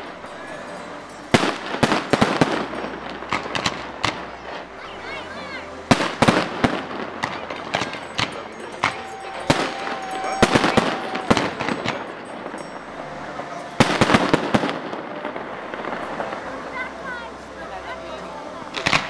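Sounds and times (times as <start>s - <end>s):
firework whistling tone: 0.0s - 16.5s
fireworks bursting with bangs and crackles: 1.1s - 16.9s.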